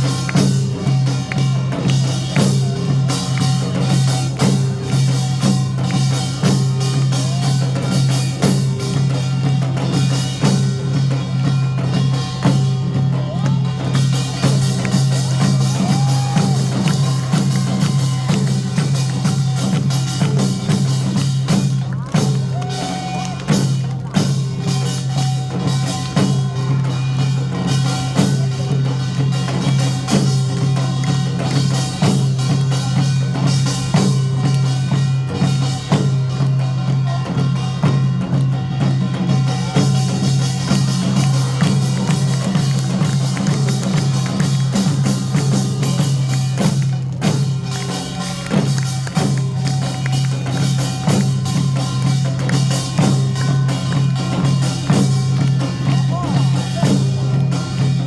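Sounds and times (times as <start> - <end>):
drum beat: 0.0 - 58.0.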